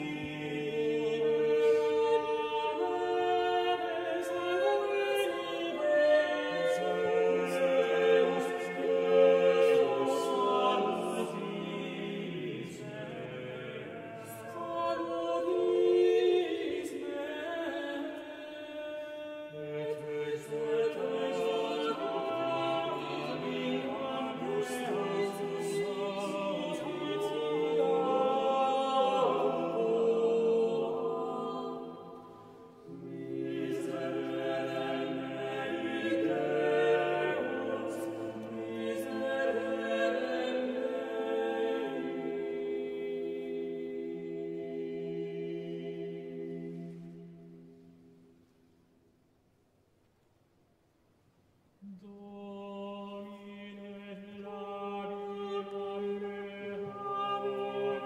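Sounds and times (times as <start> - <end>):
unaccompanied choir singing: 0.0 - 48.0, 51.8 - 58.0.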